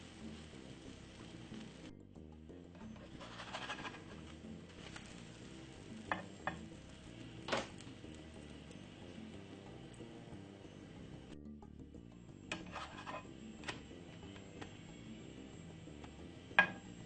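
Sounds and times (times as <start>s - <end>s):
batter sizzling in a skillet: 0.0s - 17.0s.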